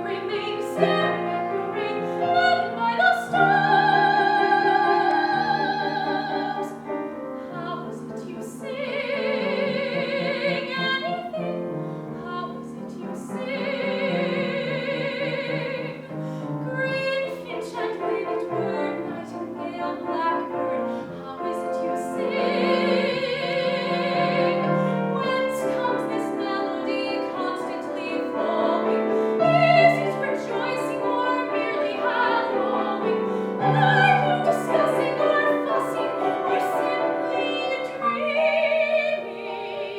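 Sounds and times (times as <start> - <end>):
piano accompaniment: 0.0 - 39.9
soprano singing with vibrato: 0.0 - 39.9.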